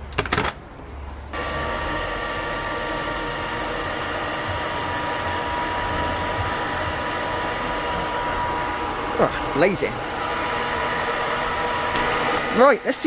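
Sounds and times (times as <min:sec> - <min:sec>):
blower motor whine: 0:01.3 - 0:13.0
rush of air and fire: 0:01.4 - 0:13.0.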